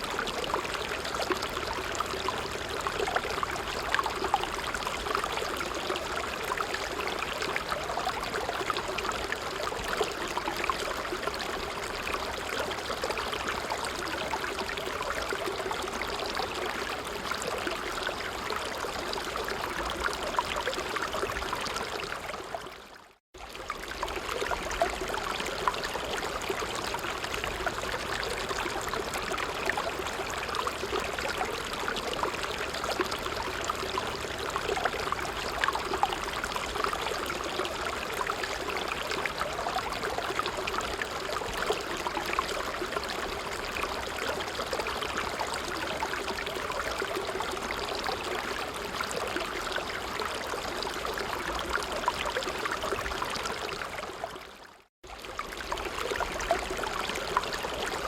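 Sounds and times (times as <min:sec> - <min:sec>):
small stream flowing and trickling: 0:00.0 - 0:58.0.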